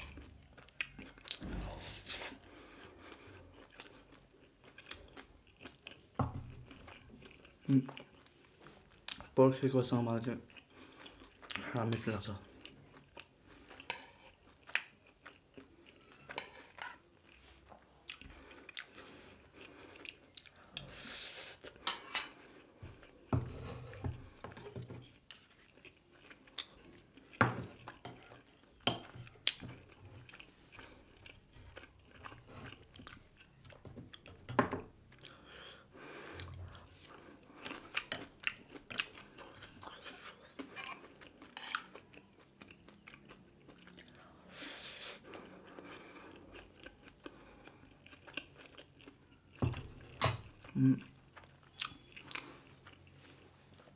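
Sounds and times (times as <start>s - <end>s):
chewing with crunchy bites: 0.0s - 53.9s.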